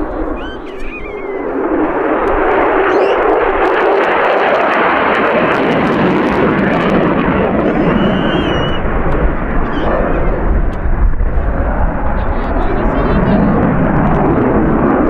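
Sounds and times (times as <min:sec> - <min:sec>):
fighter jet flying overhead: 0:00.0 - 0:15.0.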